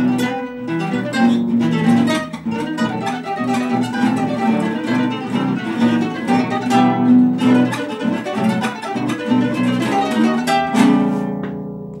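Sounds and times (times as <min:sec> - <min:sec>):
classical guitars playing: 0:00.0 - 0:12.0.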